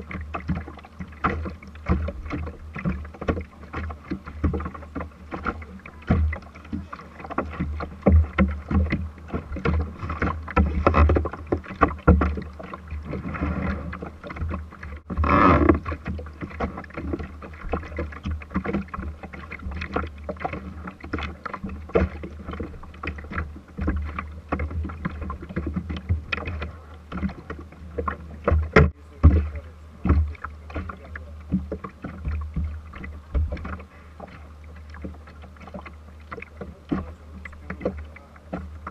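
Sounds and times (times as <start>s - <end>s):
knocks and thumps on boat hull: 0.0s - 38.9s.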